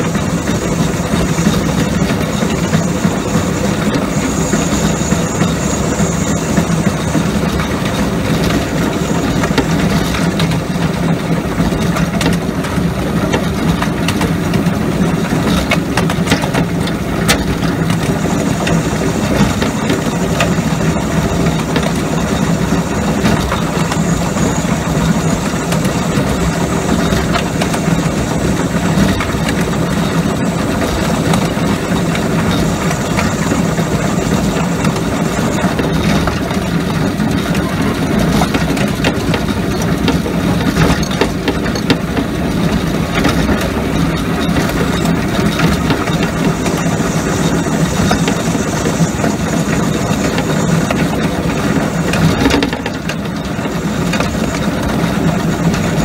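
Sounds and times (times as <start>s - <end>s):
steam locomotive rumbling on rails: 0.0s - 56.0s.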